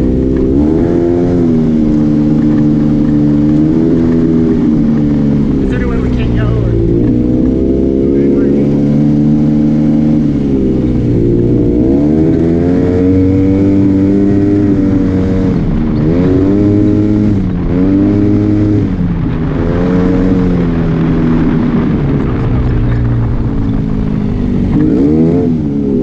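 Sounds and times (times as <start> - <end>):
engine revving: 0.0 - 26.0.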